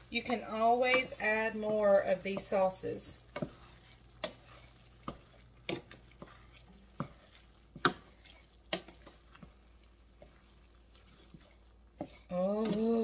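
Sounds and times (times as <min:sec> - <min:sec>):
faint sizzle: 0:00.0 - 0:13.0
utensil scraping a pan: 0:00.1 - 0:13.0.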